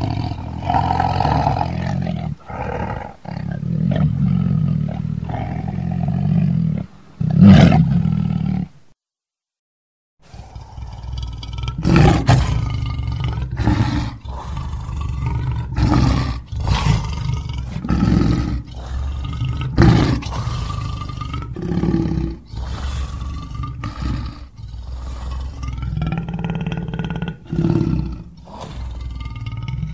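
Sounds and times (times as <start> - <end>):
lion roaring and growling: 0.0 - 8.7, 10.3 - 29.9.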